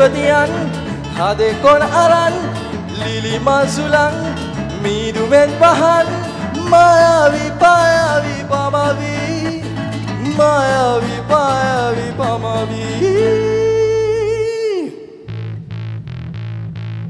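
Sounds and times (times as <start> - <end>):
cajon beat: 0.0 - 14.1
person singing: 0.0 - 15.3
acoustic guitars playing: 0.0 - 17.0.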